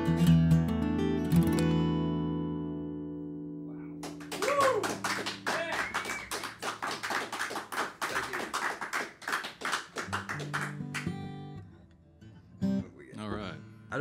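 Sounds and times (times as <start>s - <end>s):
acoustic guitars flatpicking: 0.0s - 14.0s.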